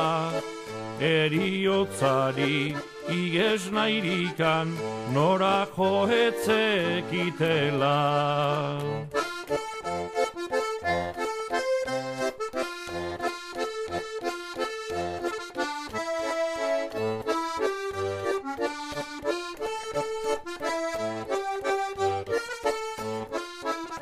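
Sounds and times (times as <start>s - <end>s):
accordion music: 0.0s - 24.0s.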